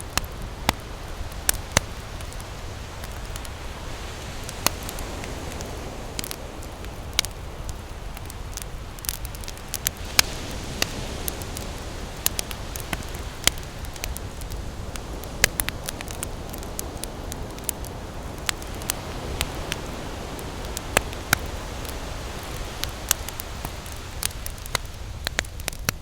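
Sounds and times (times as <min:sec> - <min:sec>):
campfire crackling and popping: 0:00.0 - 0:26.0
ocean surf: 0:00.0 - 0:26.0.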